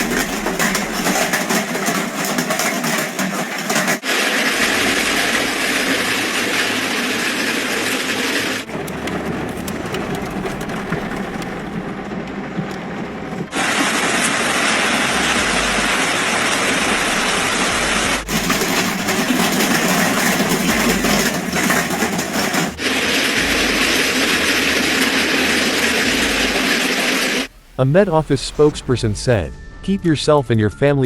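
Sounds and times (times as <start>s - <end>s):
heavy hail pelting down: 0.0s - 17.0s, 18.0s - 29.3s.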